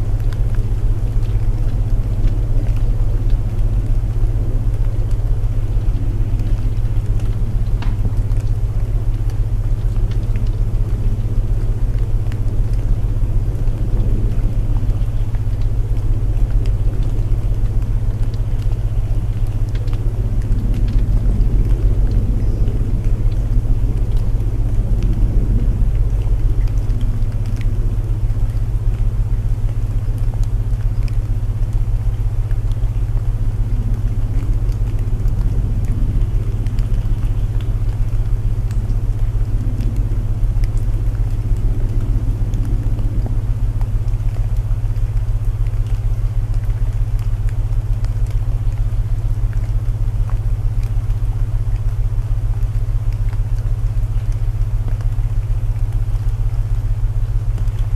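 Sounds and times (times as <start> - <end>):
low binaural tones humming: 0.0 - 57.9.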